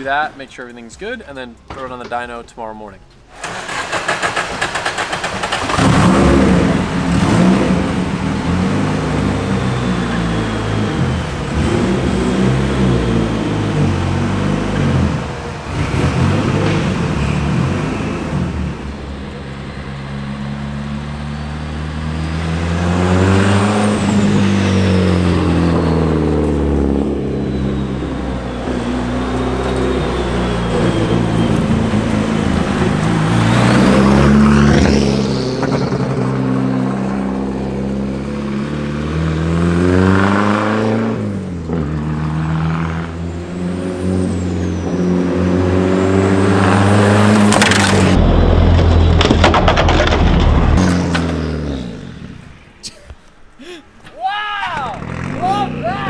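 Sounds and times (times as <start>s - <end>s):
turbocharged car engine revving: 3.3s - 52.7s, 55.0s - 56.0s.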